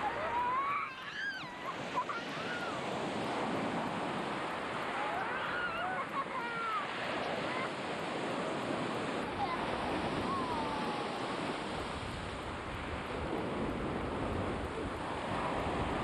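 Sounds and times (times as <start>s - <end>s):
surf washing onto shore: 0.0s - 16.0s.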